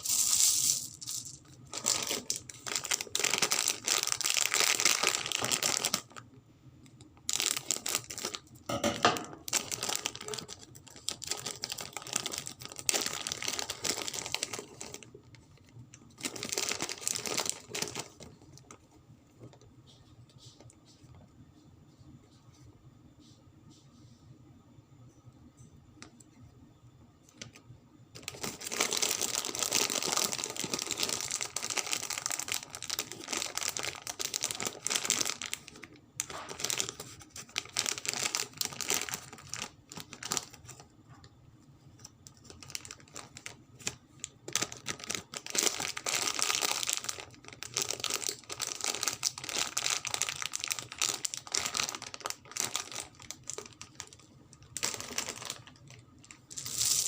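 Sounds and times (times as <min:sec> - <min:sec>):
plastic wrappers crinkling: 0:00.0 - 0:06.3, 0:07.1 - 0:19.7, 0:28.2 - 0:41.2, 0:42.0 - 0:57.0.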